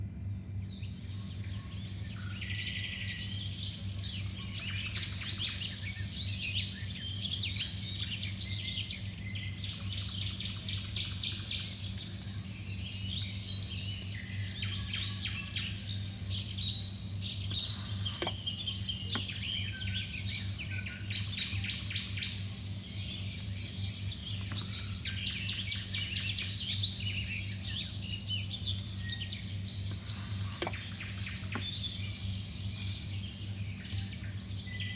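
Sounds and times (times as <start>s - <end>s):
steady low hum: 0.0s - 34.9s
small birds chirping: 0.8s - 34.9s.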